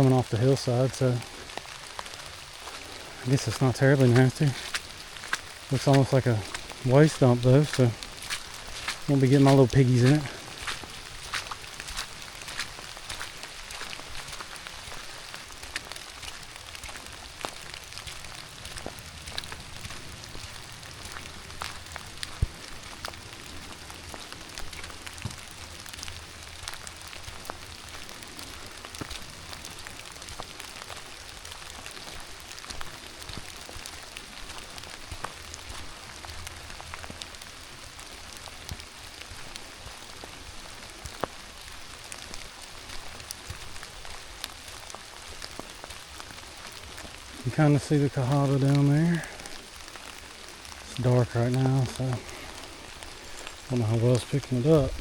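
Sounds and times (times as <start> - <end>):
rain falling: 0.0 - 55.0
raindrops ticking close by: 0.0 - 55.0.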